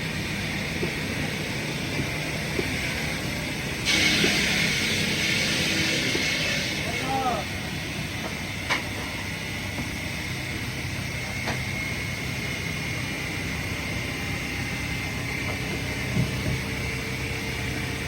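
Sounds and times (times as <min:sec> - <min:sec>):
heavy machinery humming and whining: 0:00.0 - 0:18.0.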